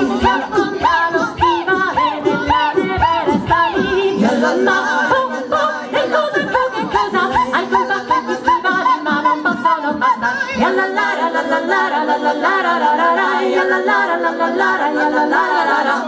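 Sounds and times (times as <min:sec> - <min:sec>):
women singing in harmony: 0:00.0 - 0:16.0.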